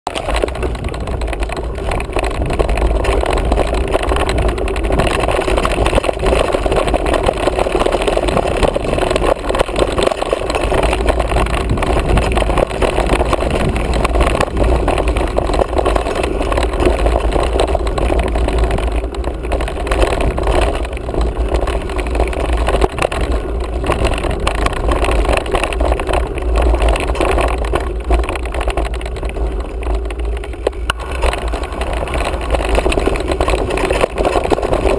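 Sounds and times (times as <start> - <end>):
bike rolling over dirt trail: 0.1 - 34.9
wind buffeting microphone: 0.1 - 34.9.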